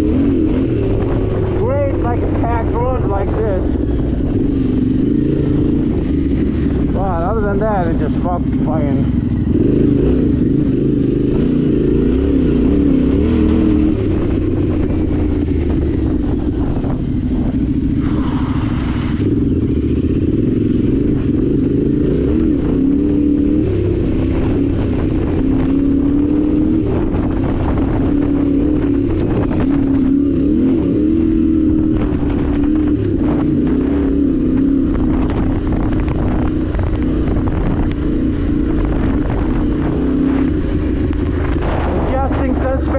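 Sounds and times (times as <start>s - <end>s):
motorcycle engine running: 0.0s - 42.9s
rush of noise: 0.0s - 42.9s.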